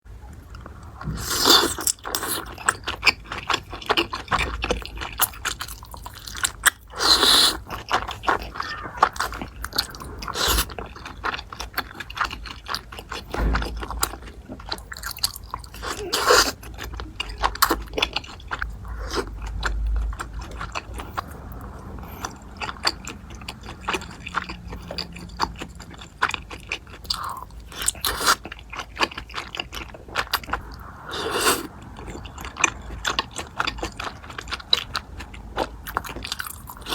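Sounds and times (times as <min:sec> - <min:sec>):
person chewing crunchy food: 0:00.4 - 0:36.9.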